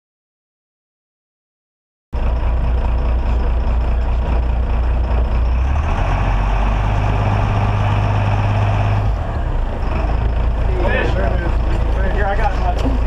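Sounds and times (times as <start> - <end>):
boat engine droning: 2.2 - 13.0.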